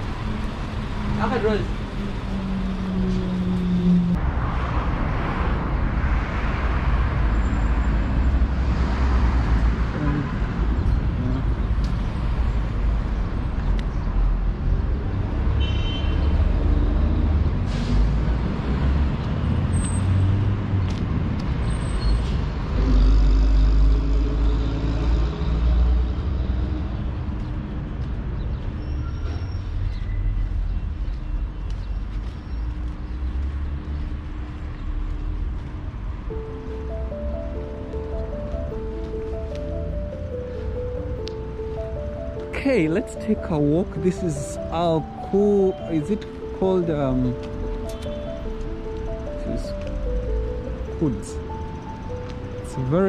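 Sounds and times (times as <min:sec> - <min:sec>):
car engines passing: 0:00.0 - 0:53.0
low traffic rumble: 0:00.0 - 0:53.0.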